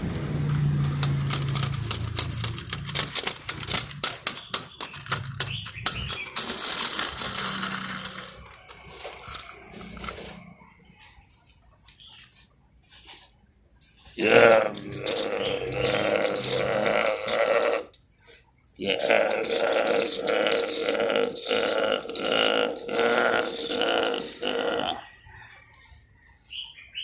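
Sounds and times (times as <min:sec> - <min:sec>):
toys clicking and clattering: 0:00.0 - 0:18.0, 0:18.8 - 0:25.9.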